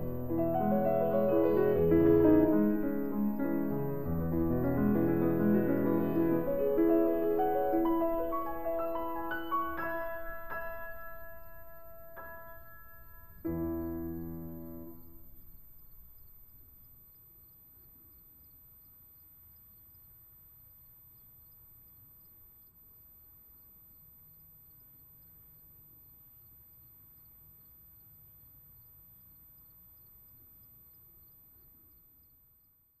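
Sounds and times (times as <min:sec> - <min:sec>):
faint crickets chirping: 0:00.0 - 0:33.0.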